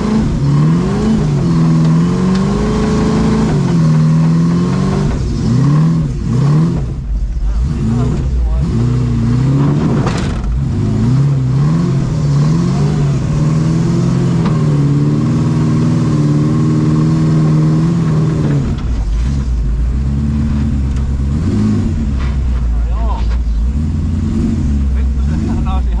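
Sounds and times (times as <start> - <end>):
buggy engine revving: 0.0 - 26.0.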